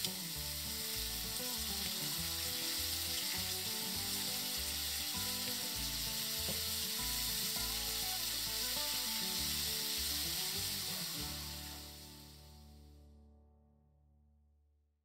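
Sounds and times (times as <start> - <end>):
food sizzling in a frying pan: 0.0 - 12.8
soft background music: 0.0 - 13.1.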